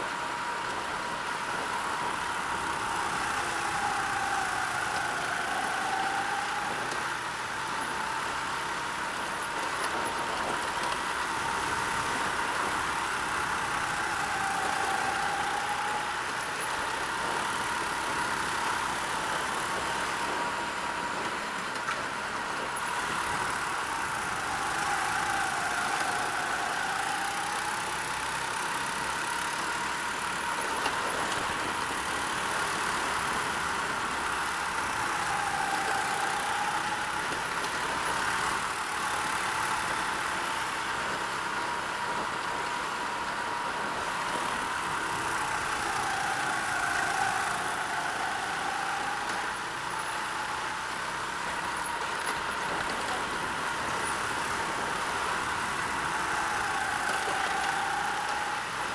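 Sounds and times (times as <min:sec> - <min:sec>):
go-kart engine running hard: 0:00.0 - 0:58.9.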